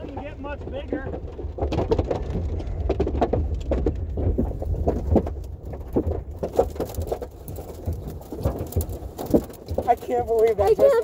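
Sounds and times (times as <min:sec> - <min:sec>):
rain and hail hitting roof: 0:00.0 - 0:11.0
wind buffeting car: 0:00.0 - 0:11.0.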